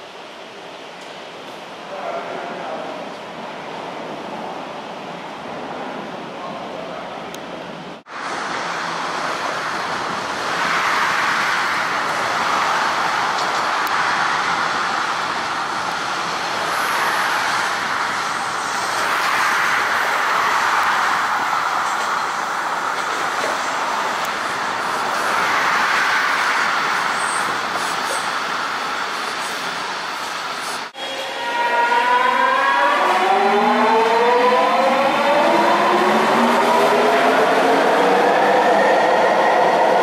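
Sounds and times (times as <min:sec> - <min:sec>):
subway train wheels on rails: 0:00.0 - 0:40.0.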